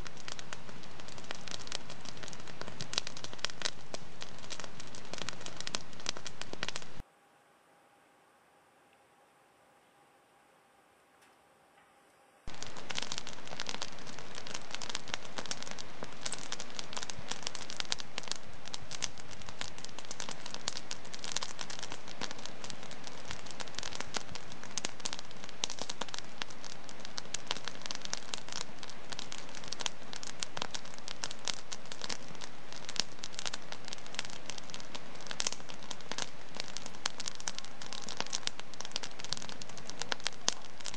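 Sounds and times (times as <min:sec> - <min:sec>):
wood fire crackling: 0:00.0 - 0:07.1, 0:12.5 - 0:40.9
soft hiss: 0:00.0 - 0:40.9.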